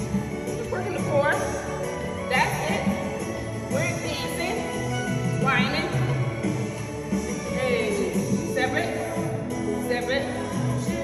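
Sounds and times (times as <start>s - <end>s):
dance music: 0.0s - 11.0s.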